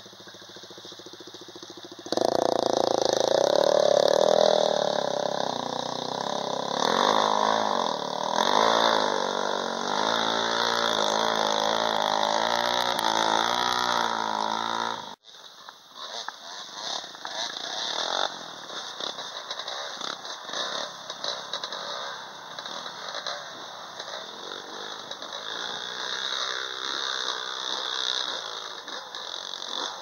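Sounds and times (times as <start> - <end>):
dirt bike engine revving: 0.0 - 15.2, 16.0 - 30.0.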